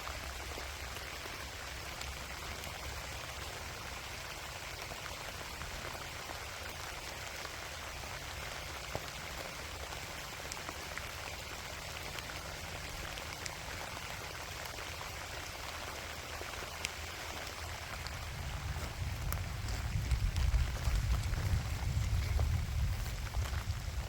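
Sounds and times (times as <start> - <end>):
light rain falling: 0.0 - 24.0.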